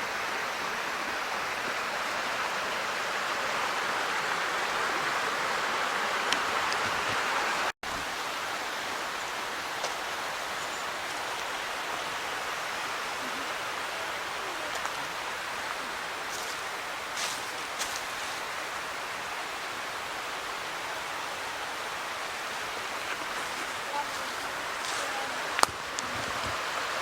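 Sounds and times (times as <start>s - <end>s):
creek water flowing over rocks: 0.0s - 27.0s.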